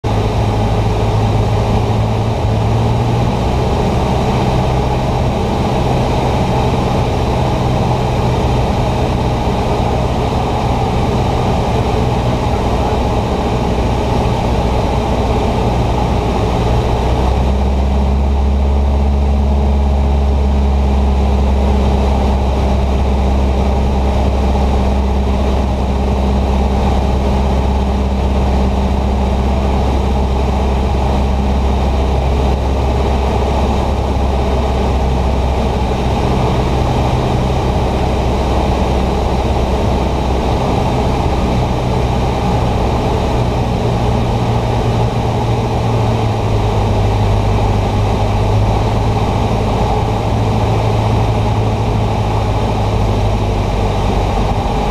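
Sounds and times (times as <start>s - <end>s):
airplane engine and propeller: 0.0s - 54.9s.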